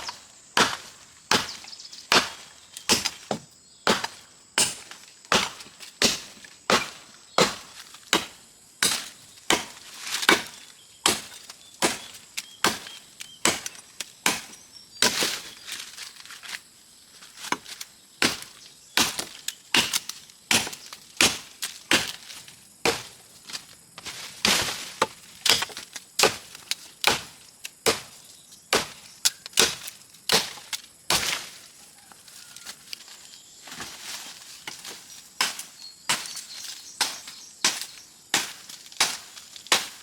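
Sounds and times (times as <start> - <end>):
blade chopping wood: 0.0 - 15.5, 17.4 - 31.6, 34.7 - 40.0.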